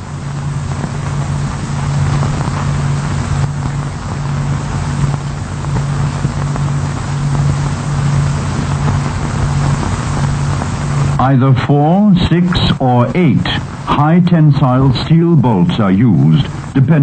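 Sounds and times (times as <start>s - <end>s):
film soundtrack hiss: 0.0s - 17.0s
low hum: 0.0s - 17.0s.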